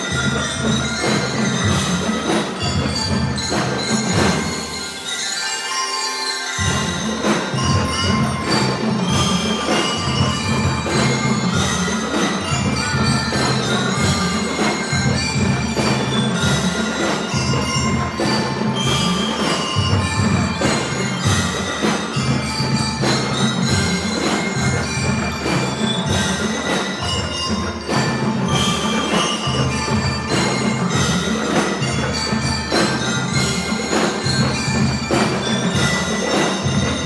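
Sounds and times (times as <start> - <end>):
marching drums: 0.0 - 5.4, 6.5 - 37.0
bell lyres playing melody: 0.0 - 37.0.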